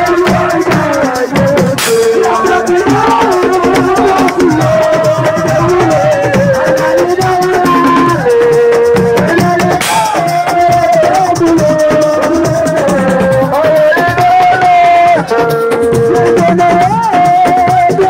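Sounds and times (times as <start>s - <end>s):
drums: 0.0s - 18.0s.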